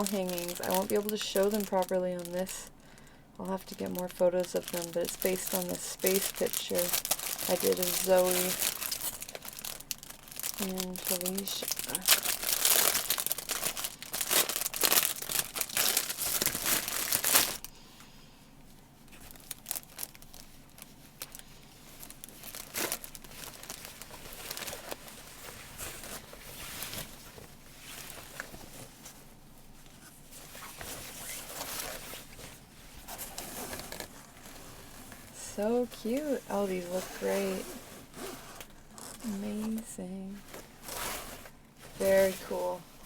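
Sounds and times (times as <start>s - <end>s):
packaging crinkling: 0.0s - 17.7s, 19.0s - 29.2s, 29.9s - 43.0s.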